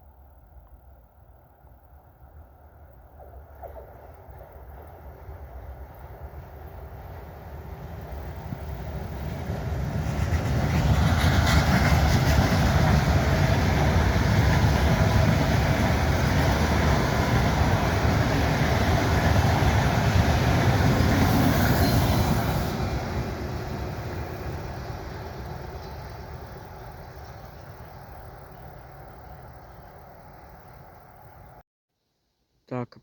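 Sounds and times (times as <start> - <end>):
train rumbling on rails: 0.0 - 31.6.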